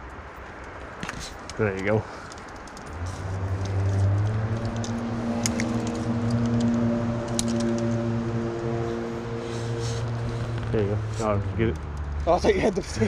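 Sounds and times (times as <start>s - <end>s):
steady engine hum: 0.0s - 13.0s.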